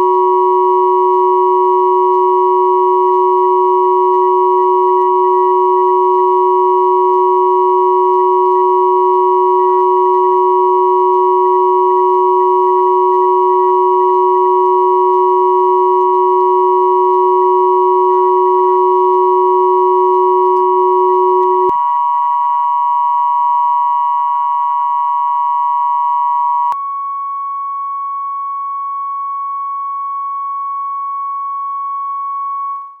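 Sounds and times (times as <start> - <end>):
pure sine tones: 0.0 - 33.0.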